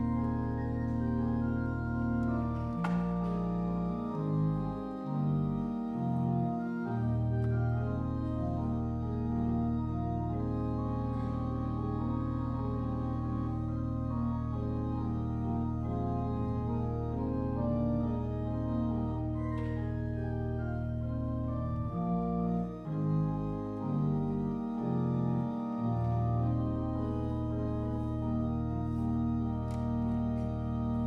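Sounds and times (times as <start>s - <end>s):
church organ chords: 0.0s - 31.0s.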